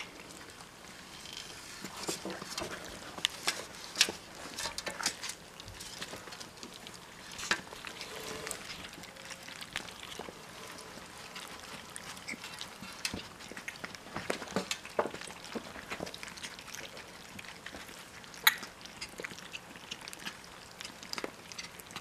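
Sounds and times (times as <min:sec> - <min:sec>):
puppies lapping milk: 0:00.0 - 0:22.0.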